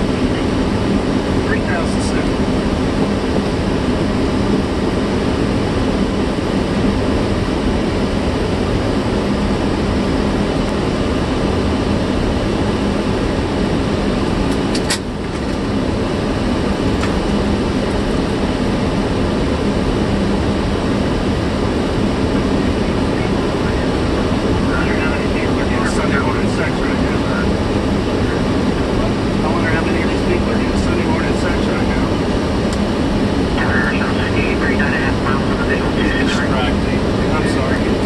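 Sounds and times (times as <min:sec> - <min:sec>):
aircraft airflow and engine noise: 0:00.0 - 0:38.0.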